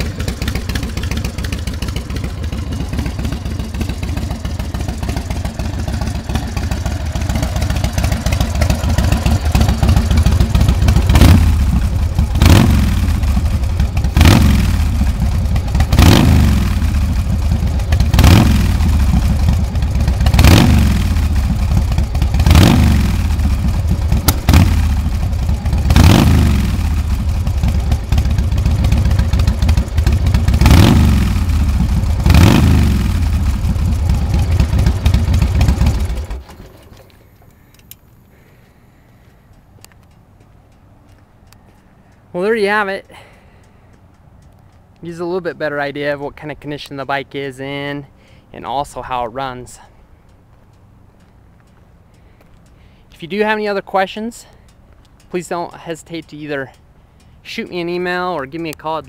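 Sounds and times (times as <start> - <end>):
motorcycle engine idling and revving: 0.0 - 47.0, 47.6 - 59.0.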